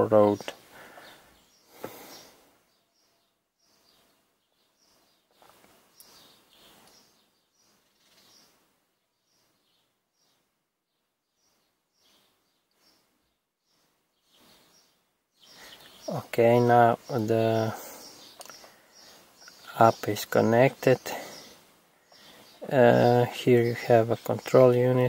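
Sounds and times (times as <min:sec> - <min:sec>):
soft bird chirps: 0:00.0 - 0:25.0.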